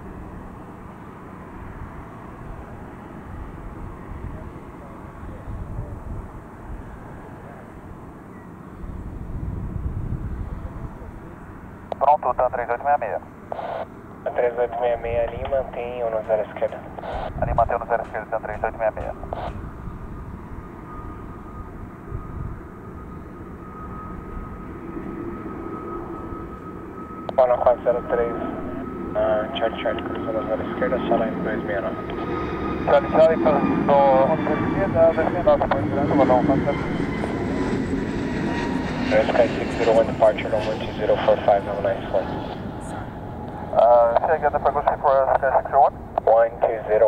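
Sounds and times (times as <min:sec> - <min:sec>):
distant jet engine rumble: 0:00.0 - 0:47.0.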